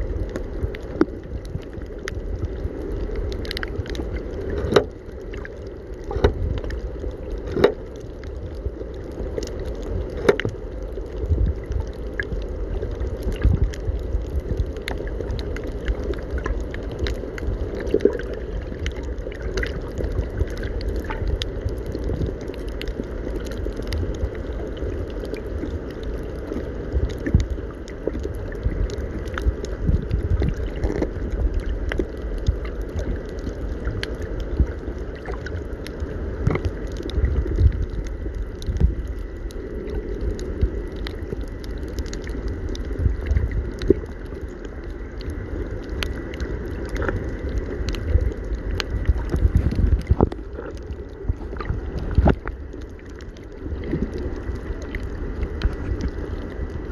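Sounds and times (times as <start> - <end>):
water noise with low rumble: 0.0 - 56.9
small clicks and pops: 0.2 - 56.9.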